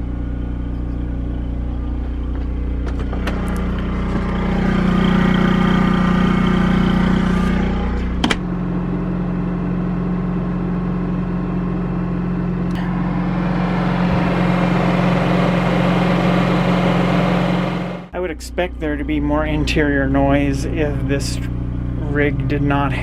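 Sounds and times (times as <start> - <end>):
generator engine hum: 0.0 - 23.0.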